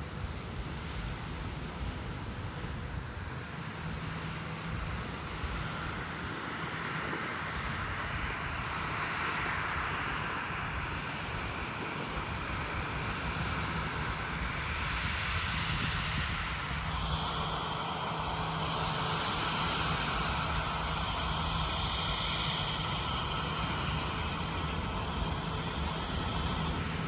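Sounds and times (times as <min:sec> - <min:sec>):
engine hum and whine: 0:00.0 - 0:27.0
jet engines rushing: 0:02.8 - 0:27.0.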